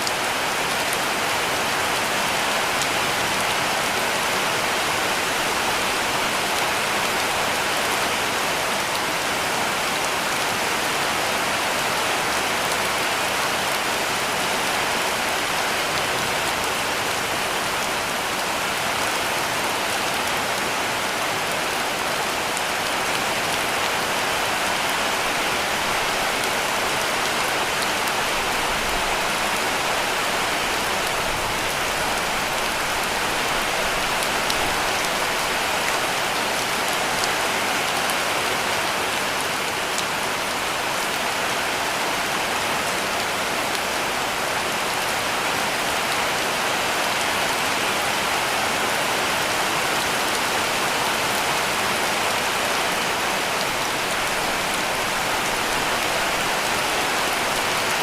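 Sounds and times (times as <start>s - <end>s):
heavy rain on a roof: 0.0s - 58.0s.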